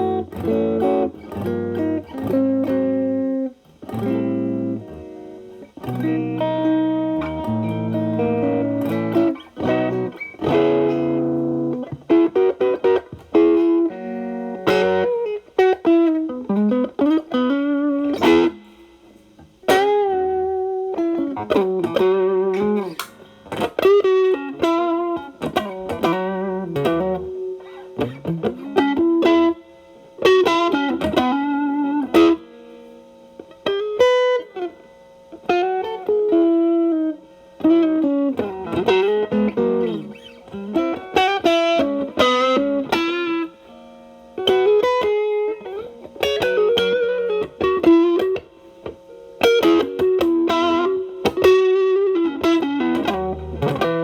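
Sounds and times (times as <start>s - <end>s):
electric guitar with light crunch: 0.0s - 54.0s.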